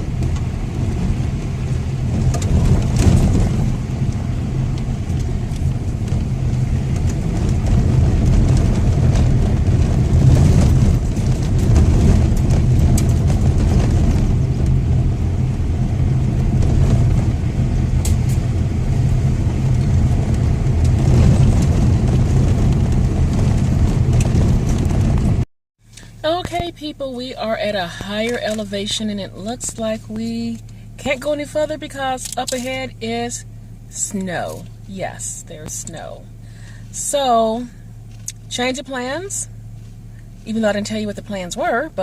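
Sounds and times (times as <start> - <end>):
car engine and tyres rumbling: 0.0 - 42.0.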